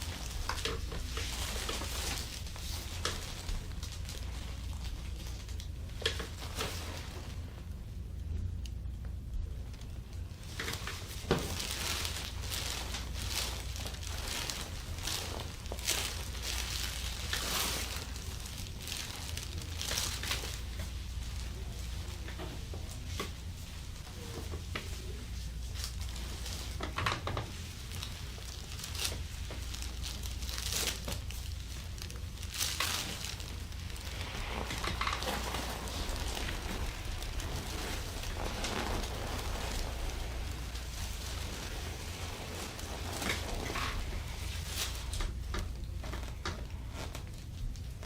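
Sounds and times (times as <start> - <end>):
paper and clothing rustling: 0.0 - 7.8, 9.8 - 48.0
steady low hum: 0.0 - 48.0.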